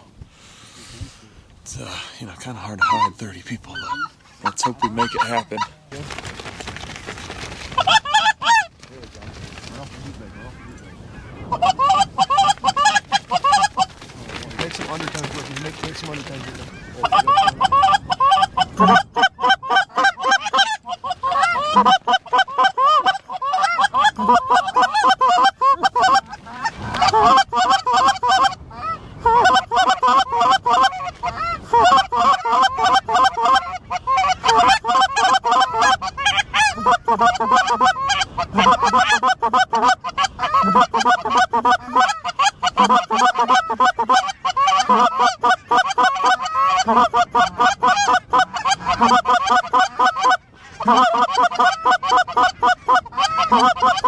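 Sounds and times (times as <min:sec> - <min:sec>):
snow geese honking and yelping: 0:02.5 - 0:05.8, 0:07.8 - 0:08.7, 0:10.2 - 0:14.0, 0:15.8 - 0:54.0.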